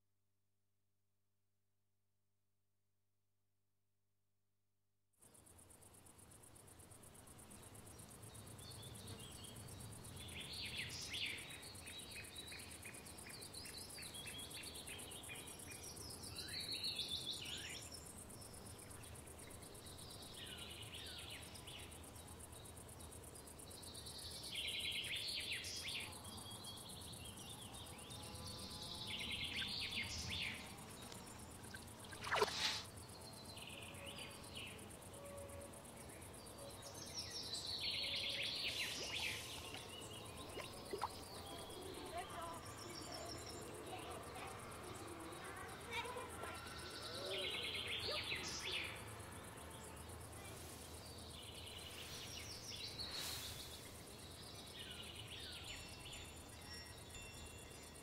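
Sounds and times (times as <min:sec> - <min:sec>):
crickets chirring: 0:05.4 - 0:58.0.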